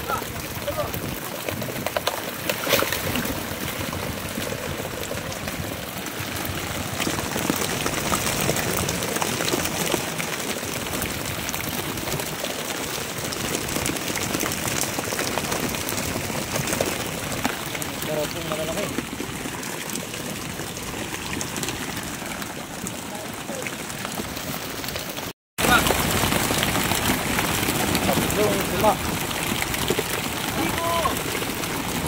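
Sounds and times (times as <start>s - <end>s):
fish thrashing on plastic tarp: 0.0s - 32.0s
water dripping and splashing: 0.0s - 32.0s.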